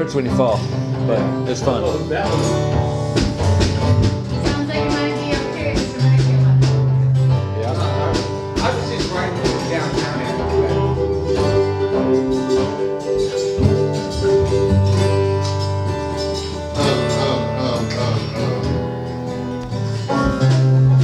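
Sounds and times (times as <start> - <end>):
acoustic string band playing: 0.0 - 21.0
plucked acoustic guitar: 0.0 - 21.0.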